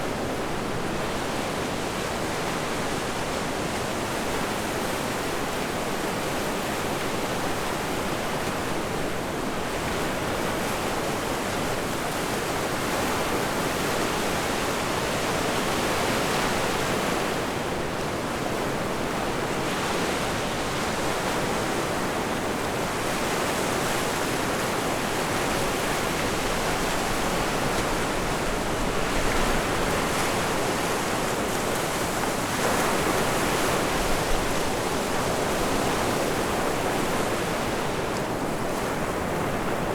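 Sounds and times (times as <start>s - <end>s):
wind on a beach: 0.0s - 39.9s
ocean surf: 0.1s - 39.9s.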